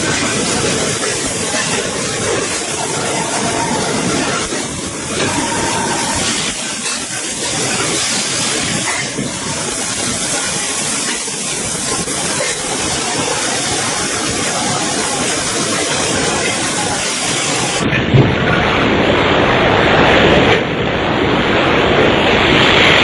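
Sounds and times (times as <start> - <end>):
dull roar: 0.0 - 20.2
loud hissing noise: 0.0 - 23.0.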